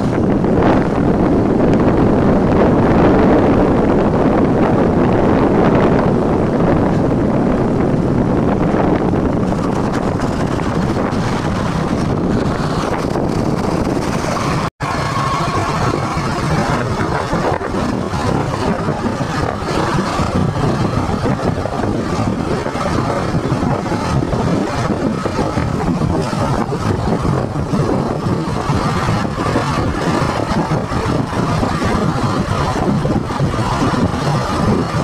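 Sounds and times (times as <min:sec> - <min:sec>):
motorcycle engine: 0:00.0 - 0:35.0
wind on microphone: 0:00.0 - 0:35.0.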